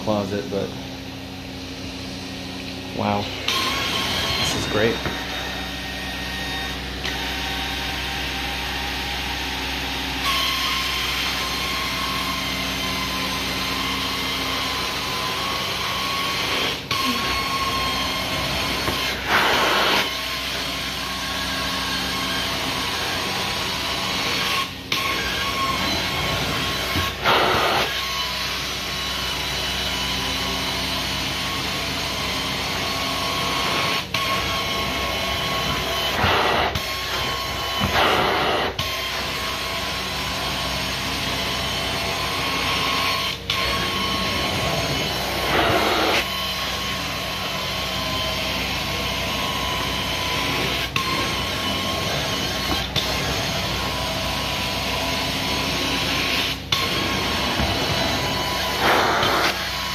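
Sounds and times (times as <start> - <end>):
carpet cleaning machine whining: 0.0 - 59.9.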